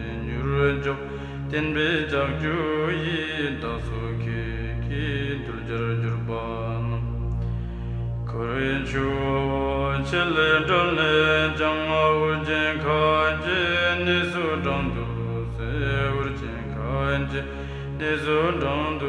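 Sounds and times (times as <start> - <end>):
person chanting a prayer: 0.0 - 19.0
steady low drone: 0.0 - 19.0.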